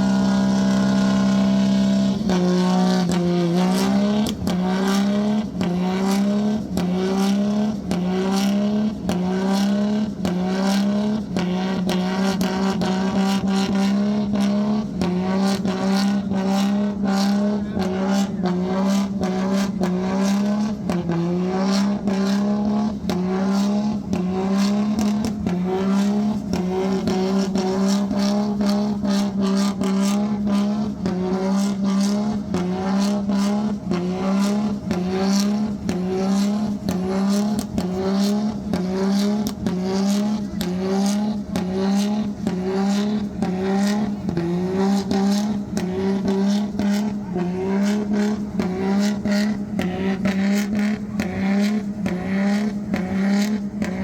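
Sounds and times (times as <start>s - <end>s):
engine at high revs: 0.0s - 54.0s.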